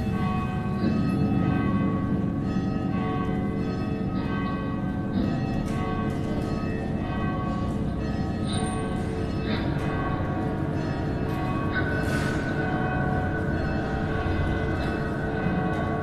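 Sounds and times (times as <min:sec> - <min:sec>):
bells ringing: 0:00.0 - 0:16.0.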